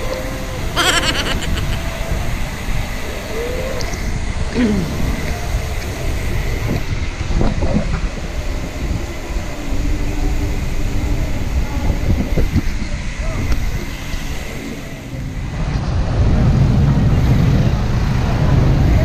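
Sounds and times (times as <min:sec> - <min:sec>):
low rumble of bicycle ride: 0:01.8 - 0:19.0.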